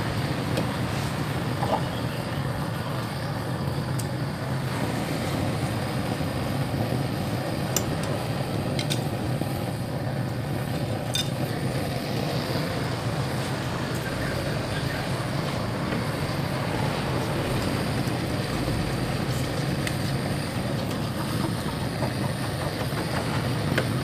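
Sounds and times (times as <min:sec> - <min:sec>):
gas torch burner rushing: 0:00.0 - 0:24.0.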